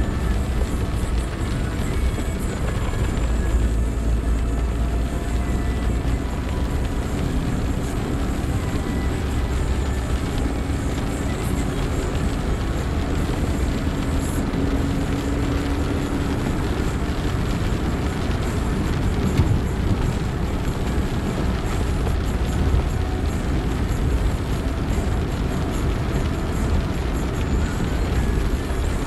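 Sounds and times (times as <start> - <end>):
car driving on wet road: 0.0 - 29.0
windscreen wipers: 0.0 - 29.0.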